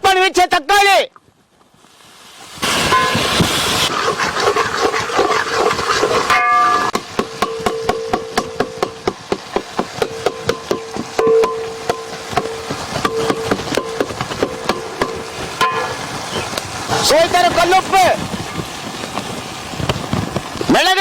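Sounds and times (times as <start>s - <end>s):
tomato sizzling in hot oil: 1.7s - 21.0s.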